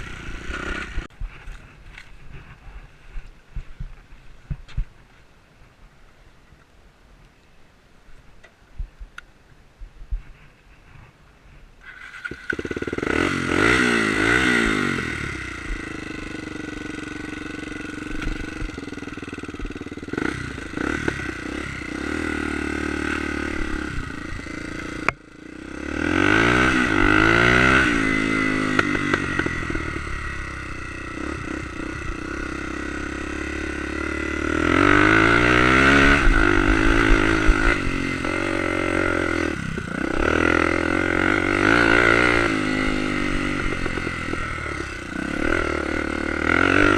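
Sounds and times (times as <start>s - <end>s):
motorcycle engine revving: 0.0s - 2.6s, 11.8s - 46.9s.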